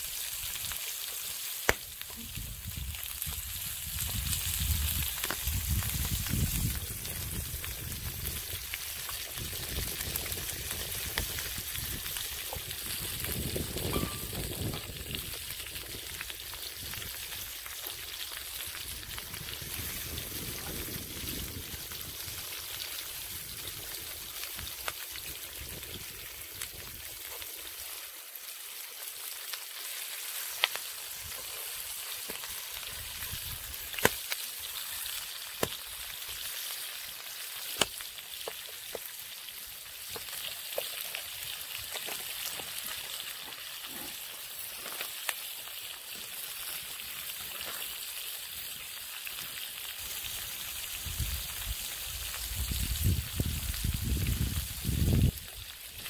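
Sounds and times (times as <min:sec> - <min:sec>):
fire pops and crackles: 0:00.0 - 0:56.0
shrimp sizzling in oil: 0:00.0 - 0:56.0.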